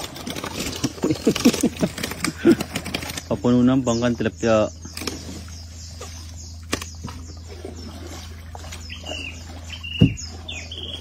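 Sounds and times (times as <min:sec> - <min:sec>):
low hum: 0:00.0 - 0:11.0
bird chirping: 0:00.5 - 0:11.0.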